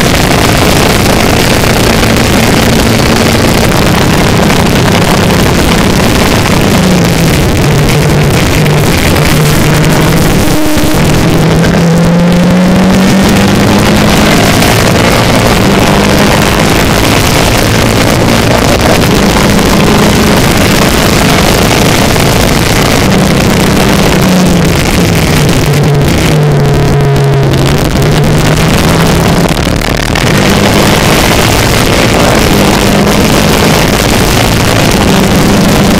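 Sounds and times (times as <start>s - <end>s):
racing car engine: 0.0s - 35.9s
wind noise: 0.0s - 35.9s.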